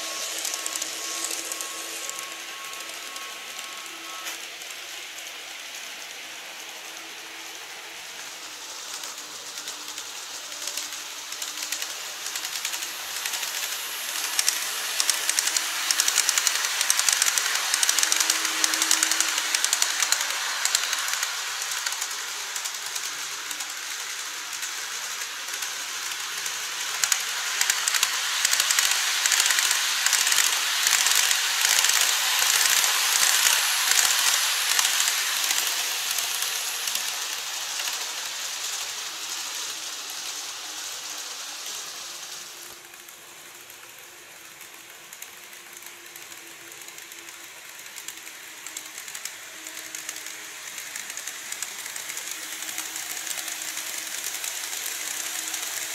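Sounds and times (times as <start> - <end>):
model train wheels rattling on track: 0.0 - 55.9.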